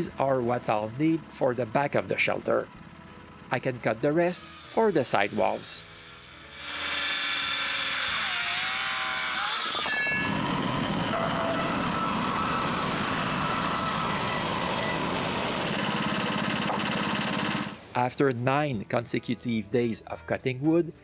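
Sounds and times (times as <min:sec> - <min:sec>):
engine-driven saw milling log: 0:00.0 - 0:18.0.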